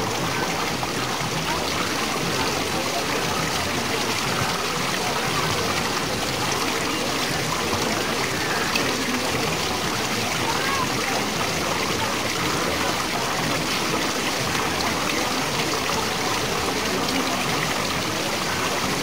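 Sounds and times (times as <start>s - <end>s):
small waterfalls splashing: 0.0s - 19.0s.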